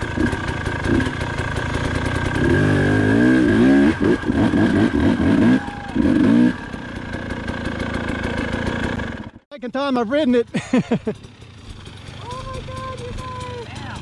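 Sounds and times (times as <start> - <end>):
dirt bike engine revving: 0.0 - 9.4, 10.2 - 14.0.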